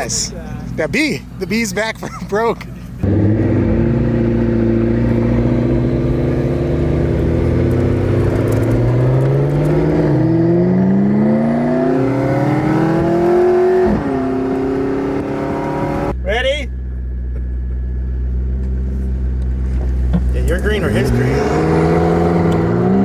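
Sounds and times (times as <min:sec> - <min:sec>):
car engine accelerating: 0:02.4 - 0:23.0.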